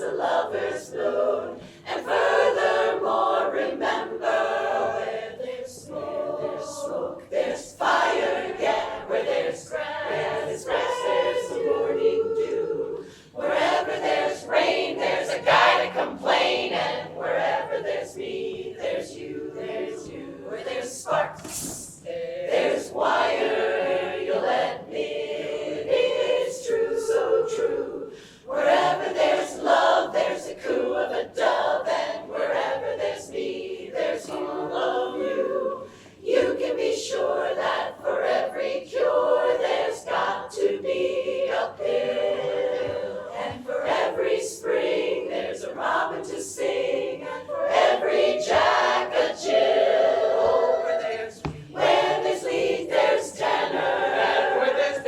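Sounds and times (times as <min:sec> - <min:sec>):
women's chorus singing a cappella: 0:00.0 - 0:55.0.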